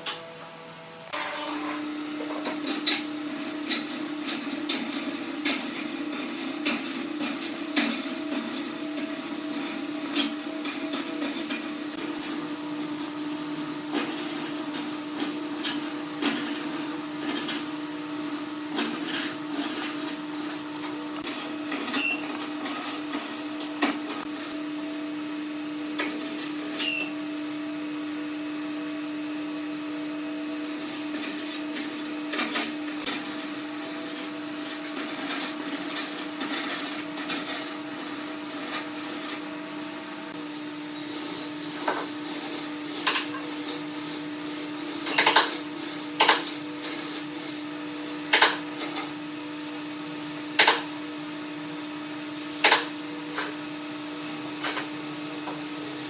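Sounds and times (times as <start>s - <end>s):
workshop machine humming: 0.0s - 56.0s.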